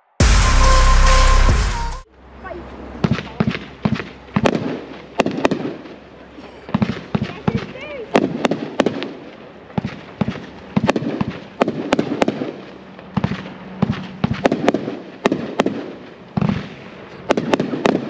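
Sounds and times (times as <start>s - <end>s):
firework cake cracks and bangs: 3.0s - 18.0s.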